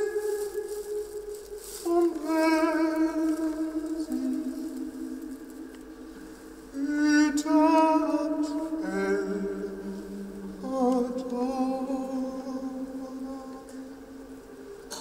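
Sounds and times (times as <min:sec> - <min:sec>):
low sustained drone tones: 0:00.0 - 0:15.0.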